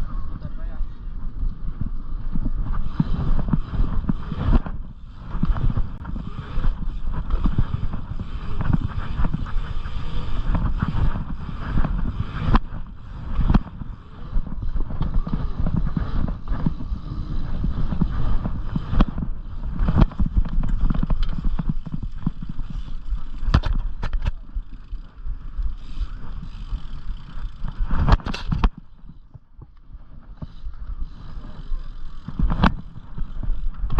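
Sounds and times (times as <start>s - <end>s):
bicycle tyres rumbling: 0.0s - 33.9s
wind on microphone: 0.0s - 33.9s.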